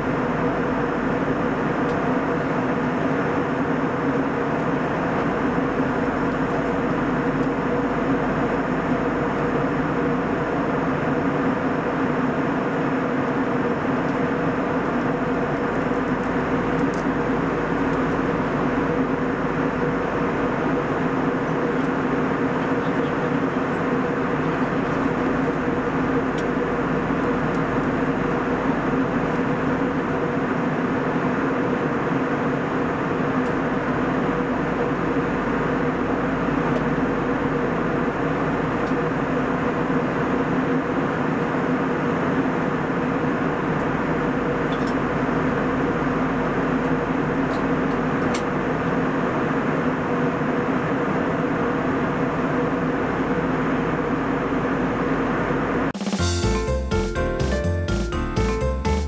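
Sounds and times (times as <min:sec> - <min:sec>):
airflow rushing in cabin: 0:00.0 - 0:56.4
jet engine drone: 0:00.0 - 0:57.8.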